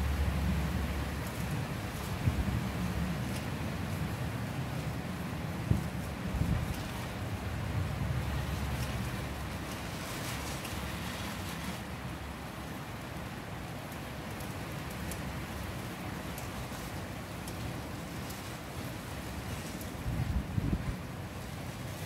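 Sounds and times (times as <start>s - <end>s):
strong wind through trees: 0.0s - 22.0s.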